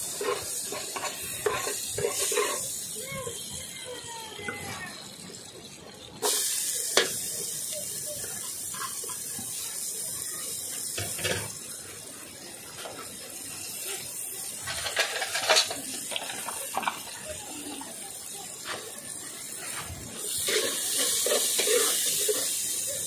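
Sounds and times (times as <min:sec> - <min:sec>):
pot bubbling and hissing: 0:00.0 - 0:23.0.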